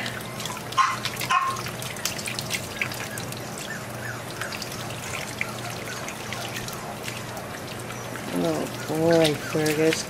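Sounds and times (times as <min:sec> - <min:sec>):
faucet water running into sink: 0:00.0 - 0:10.0
water drips and splashes: 0:00.0 - 0:10.0.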